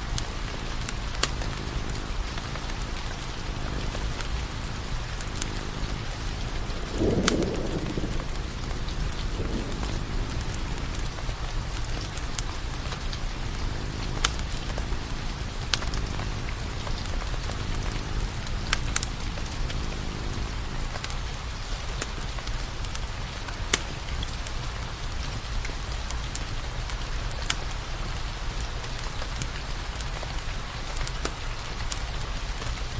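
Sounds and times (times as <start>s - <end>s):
wood fire crackling: 0.0s - 32.9s
firewood popping: 0.1s - 20.2s, 20.8s - 28.1s.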